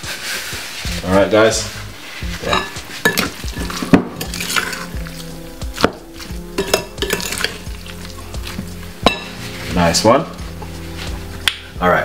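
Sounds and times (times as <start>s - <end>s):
wet squelching stir: 1.7s - 11.8s.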